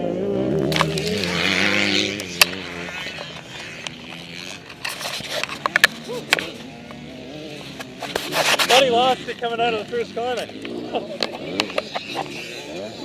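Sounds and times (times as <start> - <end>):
dirt bike engine droning: 0.0 - 13.0.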